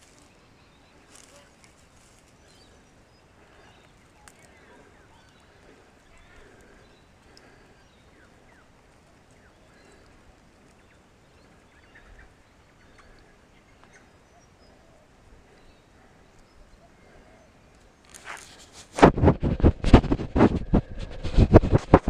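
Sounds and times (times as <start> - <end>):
faint bird chirps: 0.0 - 18.6.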